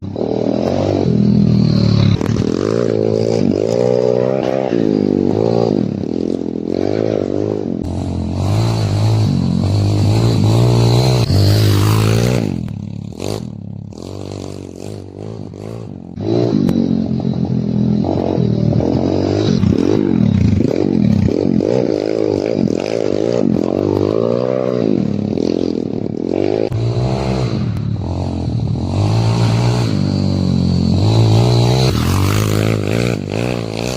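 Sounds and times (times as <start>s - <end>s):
motorbike engine revving: 0.0s - 33.9s.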